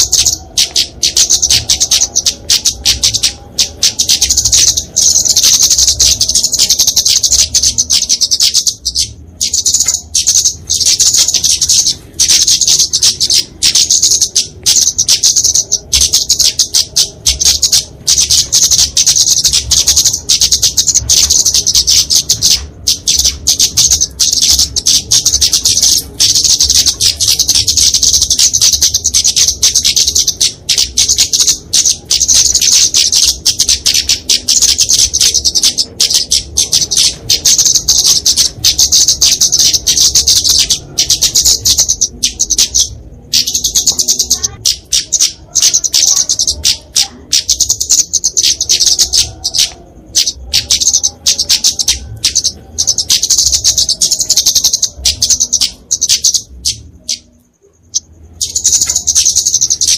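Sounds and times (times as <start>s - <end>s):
bird giving sharp high calls: 0.0s - 59.9s.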